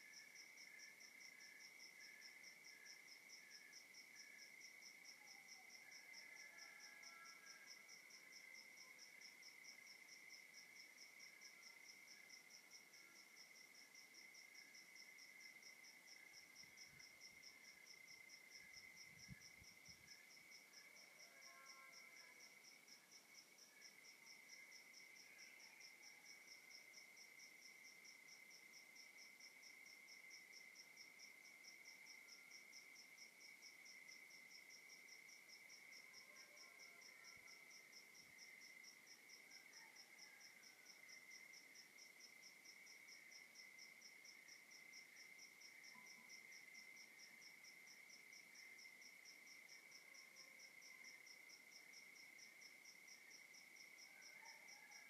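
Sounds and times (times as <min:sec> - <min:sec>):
steady high cricket trill: 0:00.0 - 0:54.0
faint low insect calls: 0:00.0 - 0:55.0
pulsing cricket chirps: 0:00.0 - 0:55.0.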